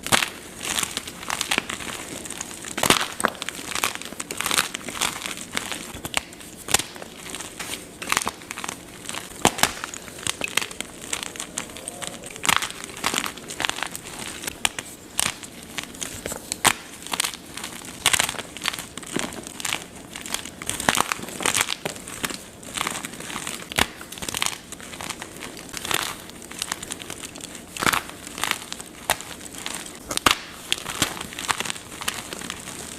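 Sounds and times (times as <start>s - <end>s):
chalk crunching: 0.2s - 32.9s.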